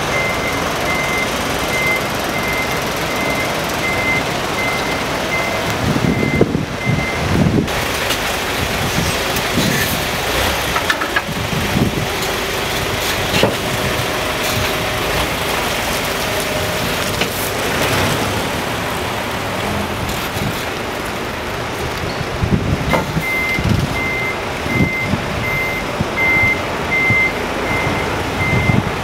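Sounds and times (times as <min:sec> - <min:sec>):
diesel truck engine rumble: 0:00.0 - 0:29.0.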